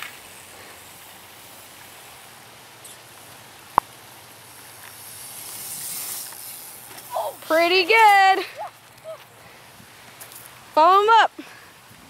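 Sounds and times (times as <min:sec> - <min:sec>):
faint outdoor noise: 0:00.0 - 0:12.0.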